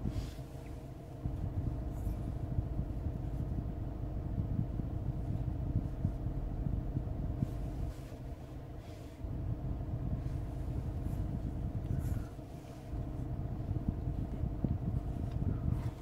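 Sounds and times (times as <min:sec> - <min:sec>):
car cabin rumble and hum: 0:00.0 - 0:16.0.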